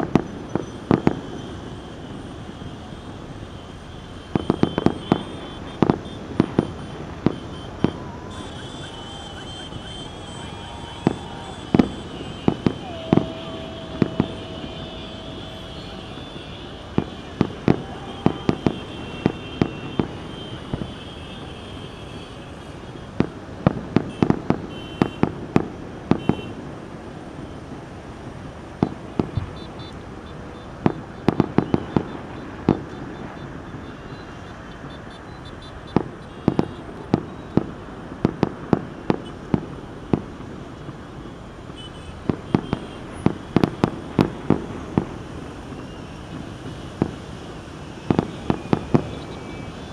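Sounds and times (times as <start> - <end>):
fireworks banging: 0.0 - 26.7, 27.3 - 49.9
crowd and city background hiss: 0.0 - 49.9.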